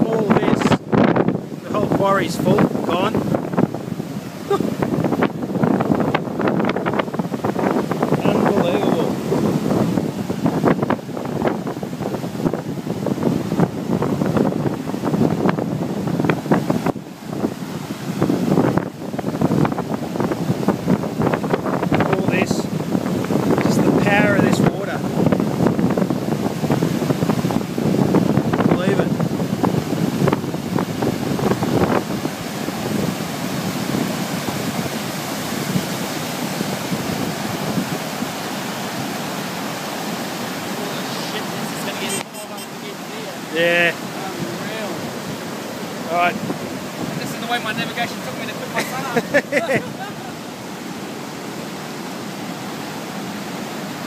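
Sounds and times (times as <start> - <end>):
floodwater rushing and churning: 0.0 - 54.0
wind buffeting microphone: 0.0 - 54.0.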